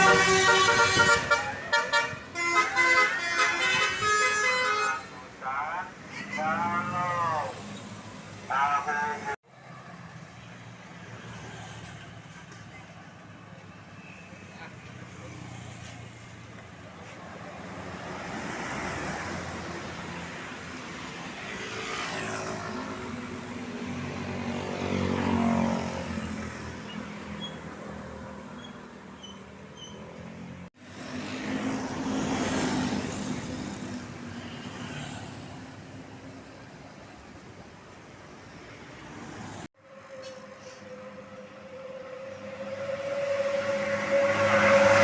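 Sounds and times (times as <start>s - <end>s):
vehicles passing: 0.0s - 45.0s.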